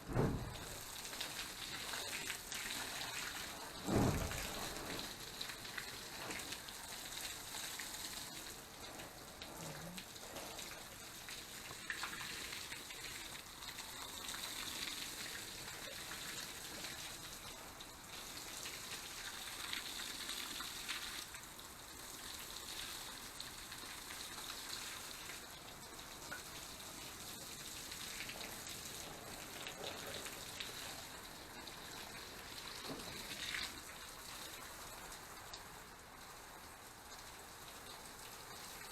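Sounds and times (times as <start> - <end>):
water spraying onto plants: 0.0 - 38.9.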